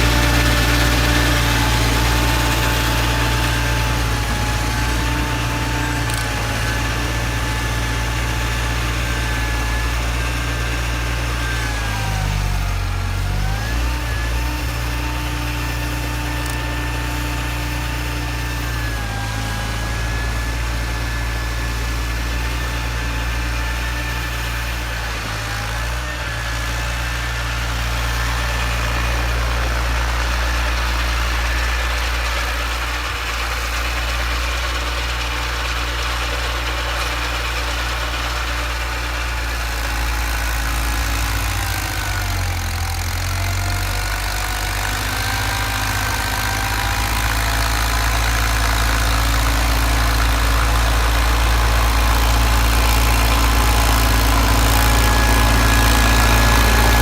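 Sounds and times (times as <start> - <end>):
garden tractor engine running: 0.0 - 57.0
snowblower whine: 0.0 - 57.0.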